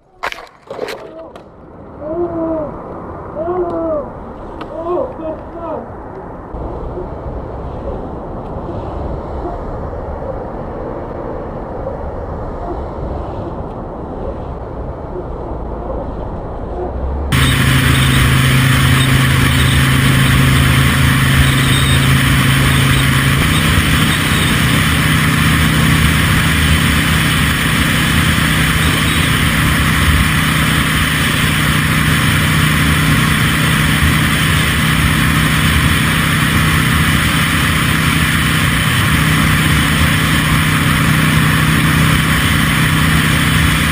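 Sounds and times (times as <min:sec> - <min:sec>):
vehicle engines running: 0:01.1 - 0:43.9.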